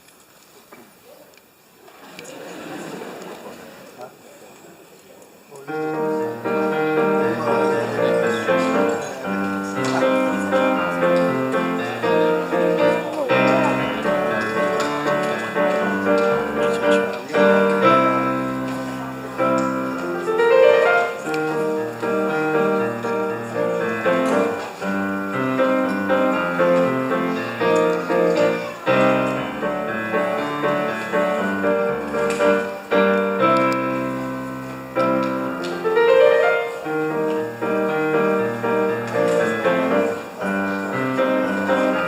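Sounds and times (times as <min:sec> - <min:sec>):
piano music: 0:05.7 - 0:42.0.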